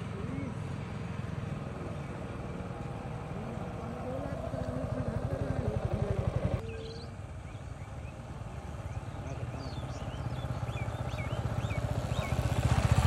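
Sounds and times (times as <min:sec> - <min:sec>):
motorcycle engine idling: 0:00.0 - 0:13.0
small birds chirping: 0:00.0 - 0:13.0.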